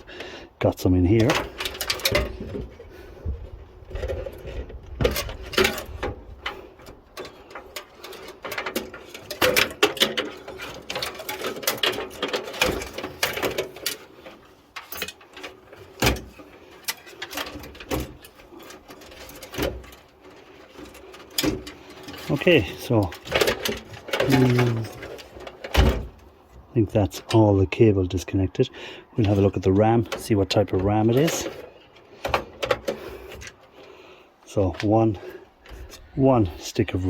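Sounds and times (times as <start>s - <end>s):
plastic connectors rattling on metal: 0.0s - 37.0s.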